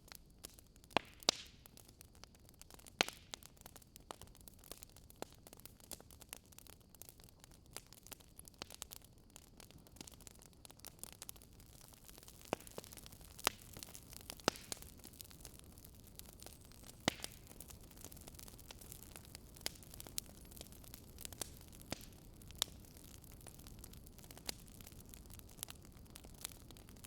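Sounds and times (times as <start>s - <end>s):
soft steady hiss: 0.0s - 27.0s
wood fire crackling: 0.0s - 27.0s.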